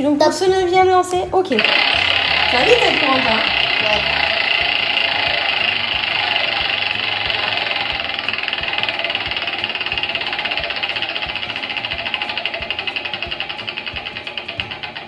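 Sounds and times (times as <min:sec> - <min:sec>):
prize wheel pointer ticking: 0:01.6 - 0:15.0.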